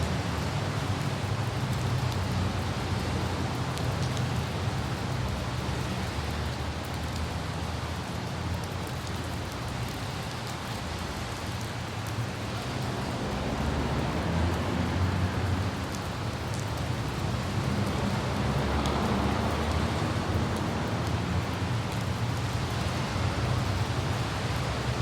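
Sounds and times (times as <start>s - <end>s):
light traffic hum: 0.0s - 25.0s
rain falling on street: 0.0s - 25.0s
raindrops ticking: 0.0s - 25.0s.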